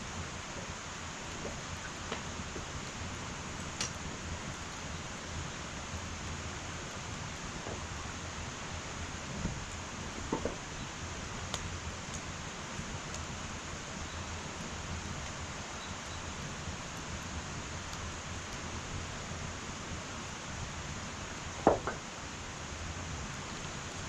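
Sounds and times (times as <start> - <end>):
wood fire crackling and popping: 0.1 - 22.2.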